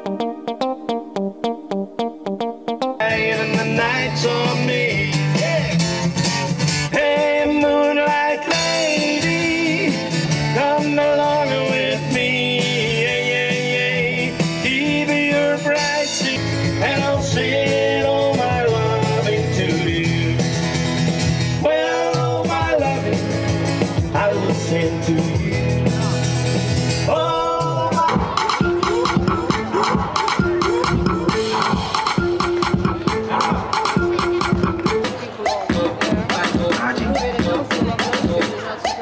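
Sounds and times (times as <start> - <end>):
man singing: 3.0 - 6.1, 6.8 - 20.6, 21.5 - 26.4, 27.0 - 34.6, 35.4 - 39.0
strummed acoustic guitar: 3.0 - 38.6.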